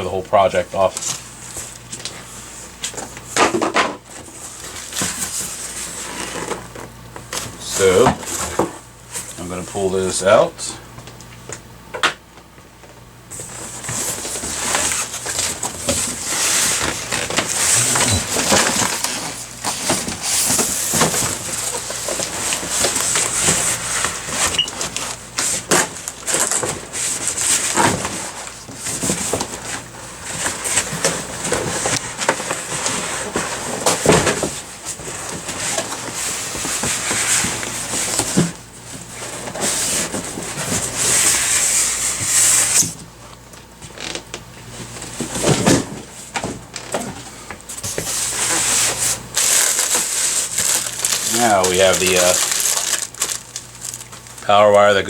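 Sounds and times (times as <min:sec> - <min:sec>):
packaging rustling and crinkling: 0:04.1 - 0:09.3, 0:13.4 - 0:43.0, 0:44.8 - 0:55.0.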